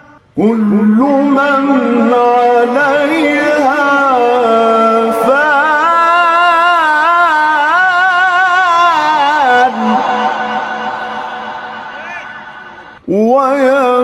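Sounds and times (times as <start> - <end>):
man chanting melodically: 0.0 - 14.0.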